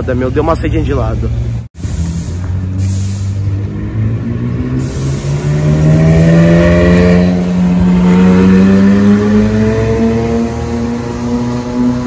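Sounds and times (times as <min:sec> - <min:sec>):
car engine accelerating hard: 0:02.0 - 0:12.0.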